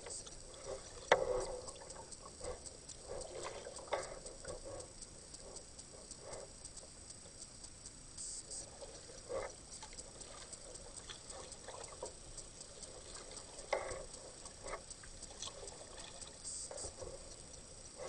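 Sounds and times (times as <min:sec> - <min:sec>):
water trickling off paddle: 0:00.0 - 0:06.8, 0:08.4 - 0:18.0.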